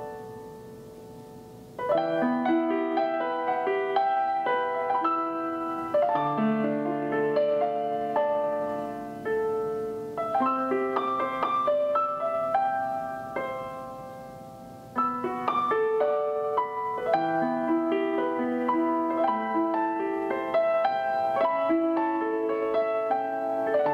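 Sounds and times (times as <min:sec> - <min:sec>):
gentle piano music: 0:00.0 - 0:23.9.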